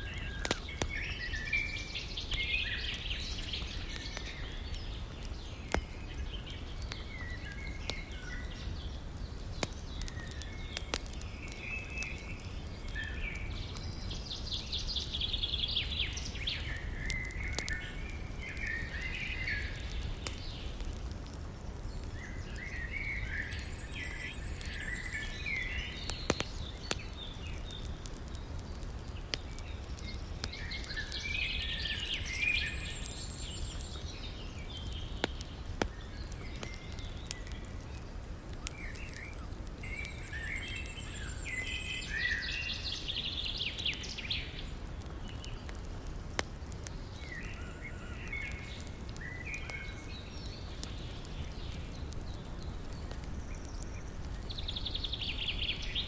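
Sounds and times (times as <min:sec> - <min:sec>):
songbirds chirping: 0:00.0 - 0:56.0
wood fire popping: 0:00.0 - 0:56.0.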